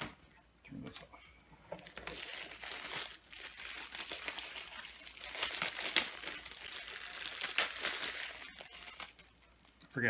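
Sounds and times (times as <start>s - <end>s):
packaging crinkling: 1.8s - 9.9s.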